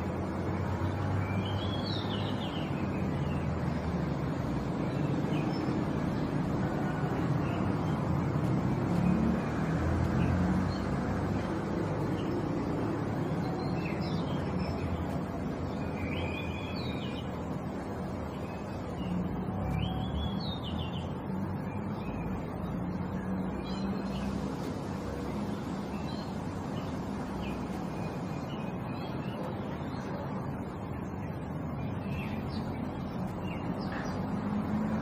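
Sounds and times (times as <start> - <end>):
bird chirping: 0.8 - 35.0.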